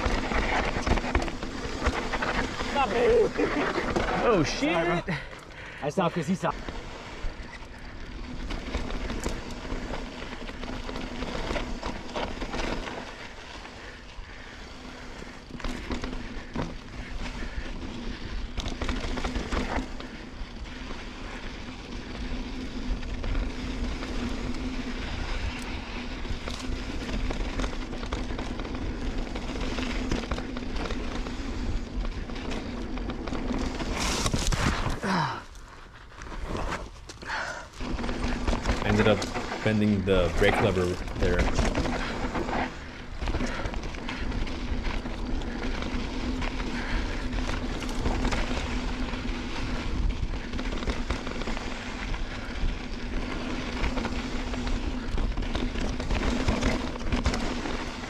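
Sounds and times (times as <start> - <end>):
bike tyre noise: 0.0 - 58.0.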